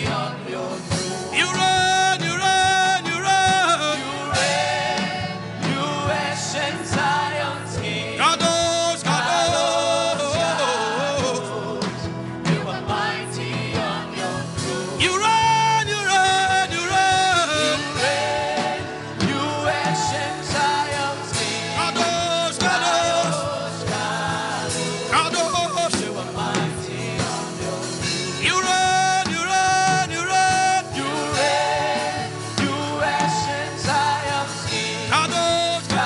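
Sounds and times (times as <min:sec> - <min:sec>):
band with drums: 0:00.0 - 0:36.0
person singing gospel melody: 0:00.0 - 0:36.0.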